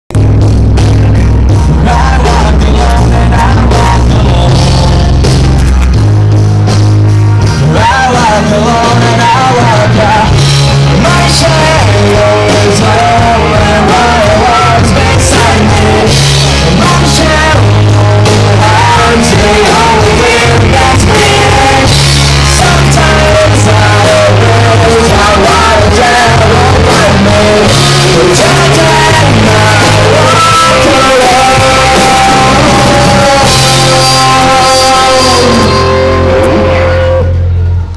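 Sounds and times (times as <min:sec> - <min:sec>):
rock band playing: 0:00.1 - 0:37.9
person singing: 0:01.0 - 0:05.8, 0:07.5 - 0:37.9.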